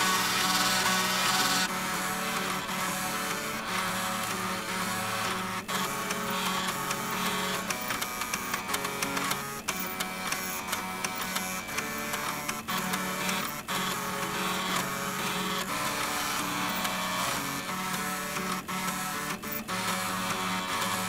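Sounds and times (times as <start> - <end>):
stepper motors buzzing a melody: 0.0 - 21.0.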